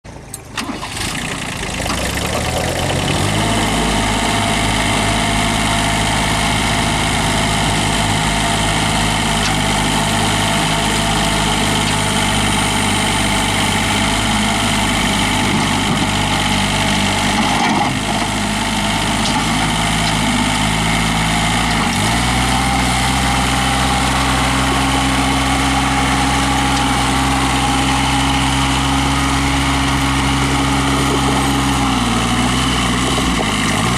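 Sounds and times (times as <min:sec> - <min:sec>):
tractor diesel engine idling: 0:00.1 - 0:33.9.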